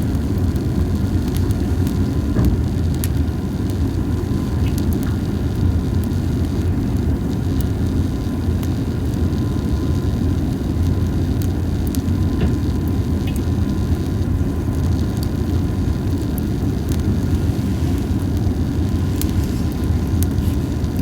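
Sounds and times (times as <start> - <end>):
fire crackling and popping: 0.0 - 21.0
small fire rumbling: 0.0 - 21.0.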